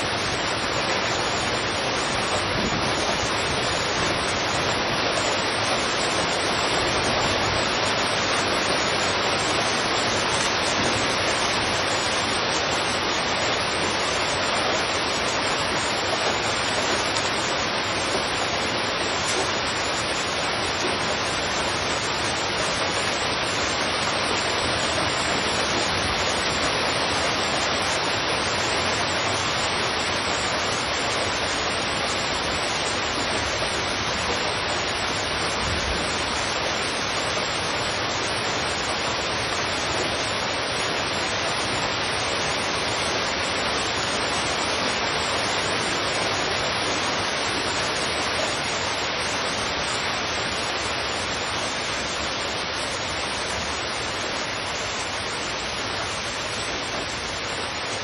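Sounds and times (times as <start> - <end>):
heavy rain on street: 0.0 - 58.0.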